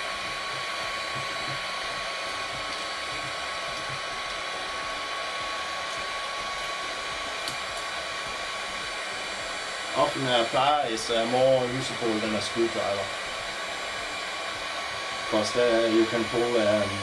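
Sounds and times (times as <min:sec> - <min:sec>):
heat gun blowing with whine: 0:00.0 - 0:17.0.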